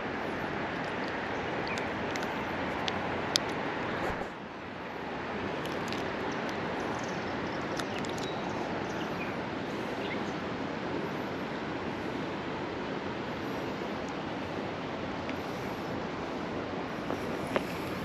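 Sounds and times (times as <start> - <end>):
creek water flowing: 0.0 - 18.0.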